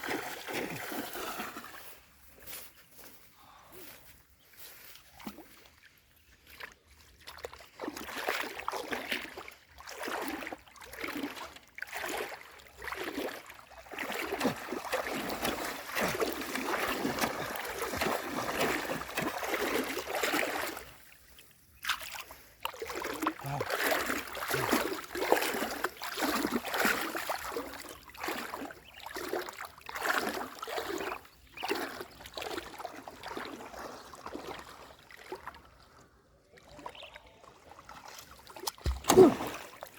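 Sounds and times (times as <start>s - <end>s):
river water splashing: 0.0s - 2.2s, 5.0s - 36.0s, 36.6s - 39.9s.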